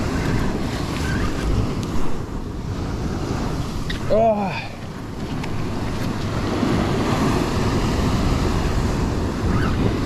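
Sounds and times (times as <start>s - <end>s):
ocean swell washing against rock: 0.0s - 10.0s
wind buffeting microphone: 0.0s - 10.0s.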